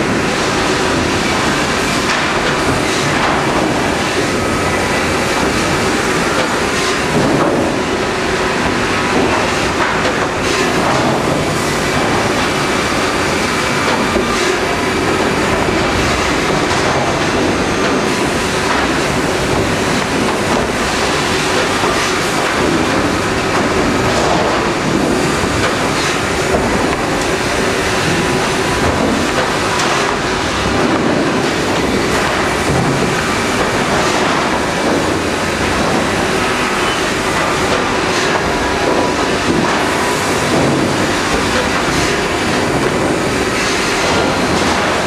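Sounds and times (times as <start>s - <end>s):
machinery clattering: 0.0s - 45.0s
sawmill machinery din: 0.0s - 45.0s.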